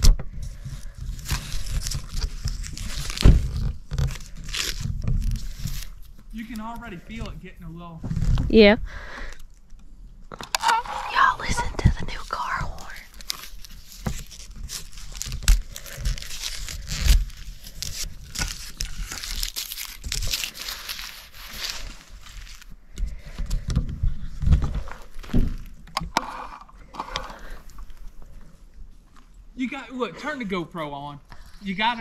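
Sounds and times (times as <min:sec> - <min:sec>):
rustling and crinkling: 0:00.0 - 0:08.8, 0:09.4 - 0:29.6.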